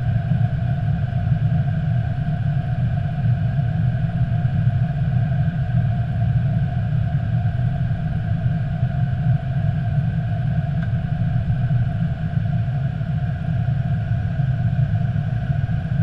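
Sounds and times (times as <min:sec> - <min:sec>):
airflow and engine rumble: 0:00.0 - 0:16.0.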